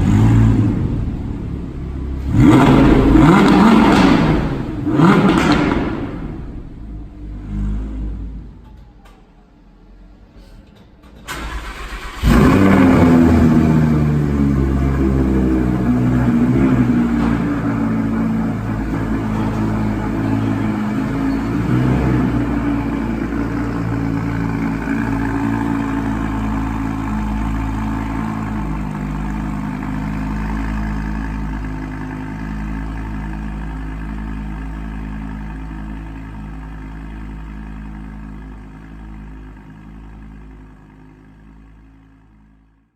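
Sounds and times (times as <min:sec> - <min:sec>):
car engine idling with misfires: 0:00.0 - 0:42.6.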